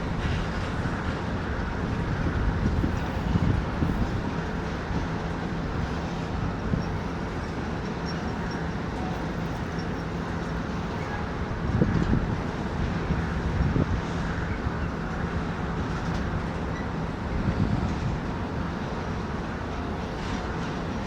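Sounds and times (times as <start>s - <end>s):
train rumbling on tracks: 0.0s - 21.0s.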